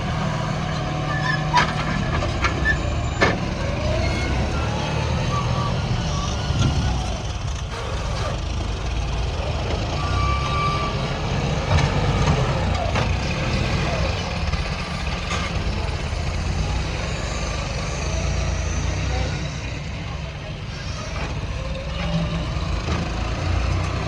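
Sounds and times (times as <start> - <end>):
machinery clanks and knocks: 0.0 - 17.6, 20.7 - 24.0
diesel engine rumble: 0.0 - 24.0.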